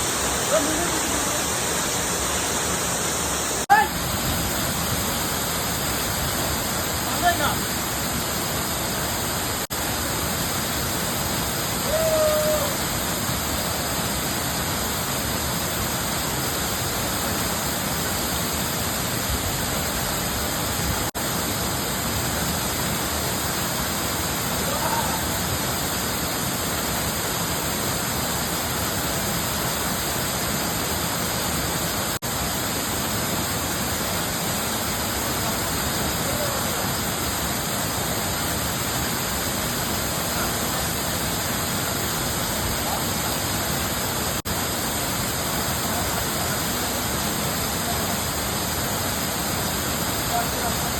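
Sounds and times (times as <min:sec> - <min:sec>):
waterfall rushing over rocks: 0:00.0 - 0:50.9.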